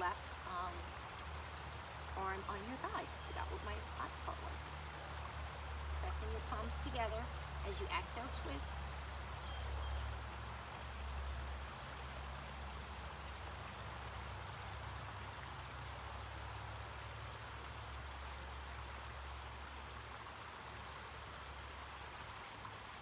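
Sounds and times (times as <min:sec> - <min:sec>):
water trickling in a pond: 0:00.0 - 0:23.0.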